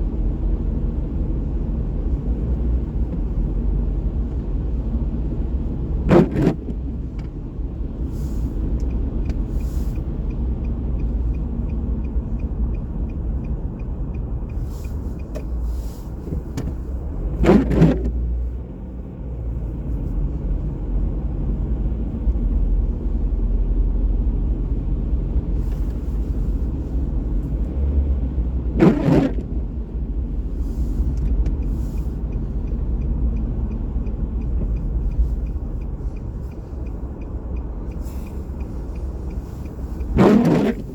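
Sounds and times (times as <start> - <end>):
city traffic rumble: 0.0 - 40.9
vehicles passing: 0.0 - 40.9.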